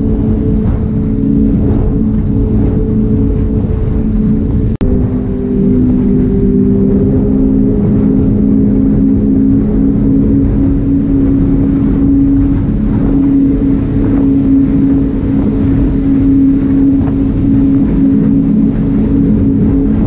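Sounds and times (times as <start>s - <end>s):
speedboat engine drone: 0.0s - 20.0s
wind rushing over microphone: 0.0s - 20.0s.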